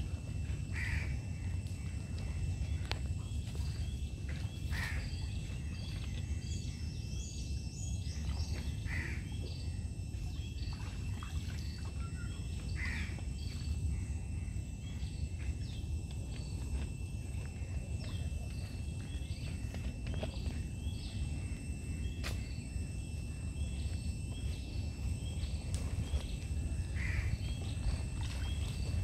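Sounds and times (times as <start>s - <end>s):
insects high tone: 0.0s - 29.0s
low steady rumble: 0.0s - 29.0s.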